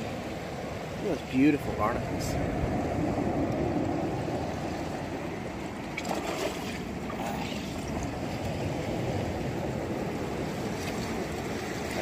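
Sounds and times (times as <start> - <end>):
surf washing on beach: 0.0 - 12.0.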